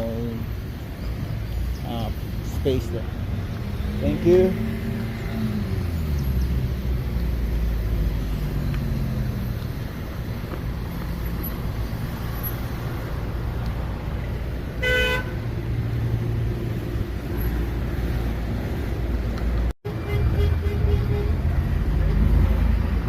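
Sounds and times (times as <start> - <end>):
car engines running: 0.0 - 23.0.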